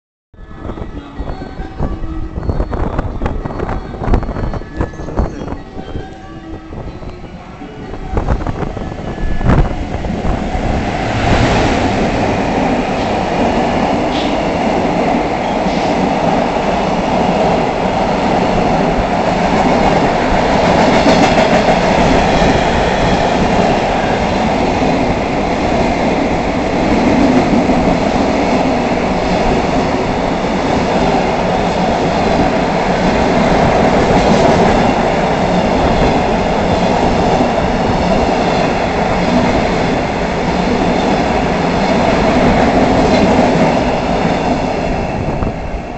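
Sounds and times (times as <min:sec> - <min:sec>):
freight train rumbling past: 0:00.4 - 0:45.9.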